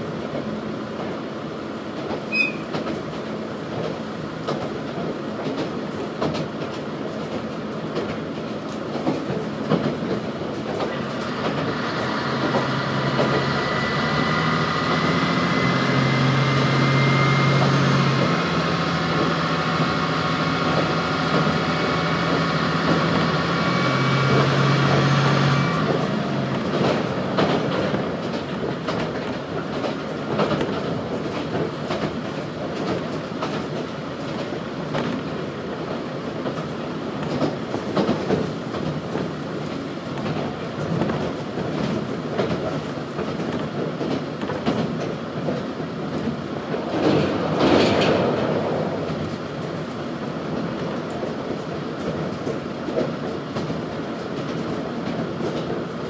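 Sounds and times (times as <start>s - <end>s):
railcar running rumble: 0.0s - 56.0s
wheels clicking over rail joints: 1.9s - 16.7s, 17.6s - 56.0s.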